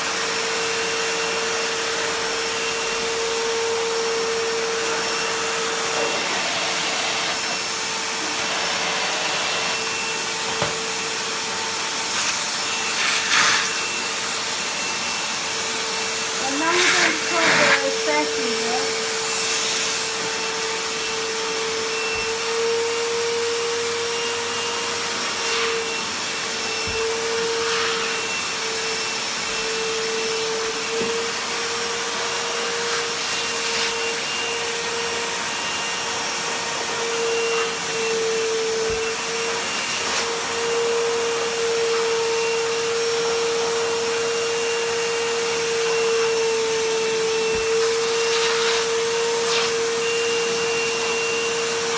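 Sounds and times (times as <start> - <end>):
vacuum cleaner whining: 0.0 - 51.9.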